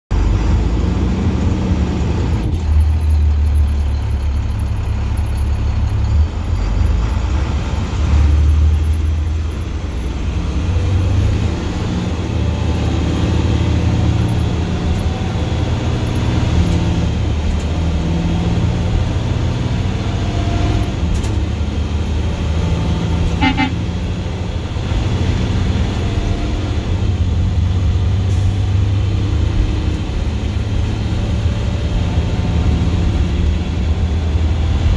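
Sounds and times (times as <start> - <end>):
deep diesel exhaust drone: 0.1 - 34.9.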